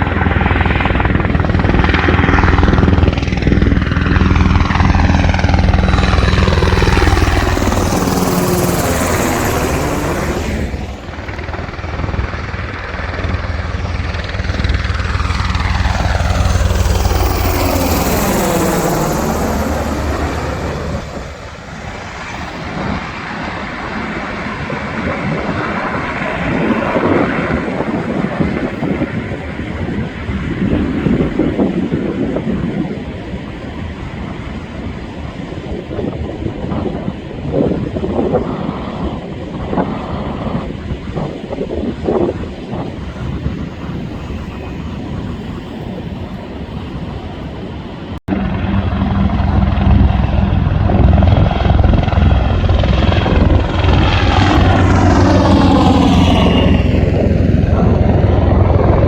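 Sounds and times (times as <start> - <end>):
helicopters flying low past: 0.0 - 59.0.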